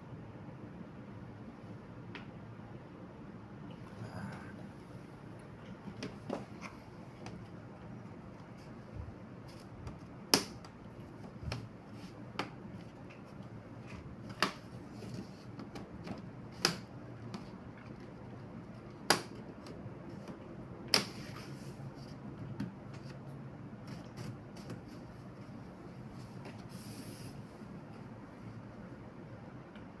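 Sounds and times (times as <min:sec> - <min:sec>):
soft taps and handling noises: 0:04.3 - 0:28.7.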